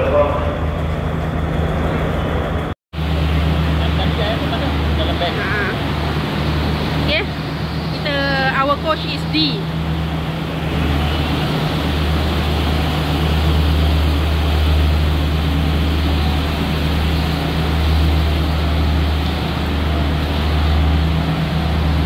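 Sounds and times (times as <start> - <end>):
diesel train idling: 0.0 - 22.0.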